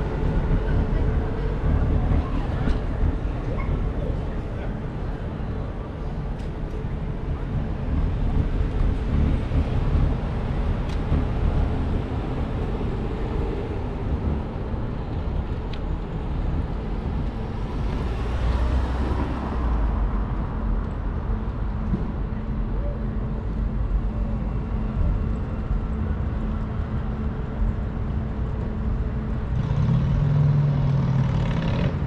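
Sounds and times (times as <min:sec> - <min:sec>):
street traffic rumble: 0:00.0 - 0:32.0.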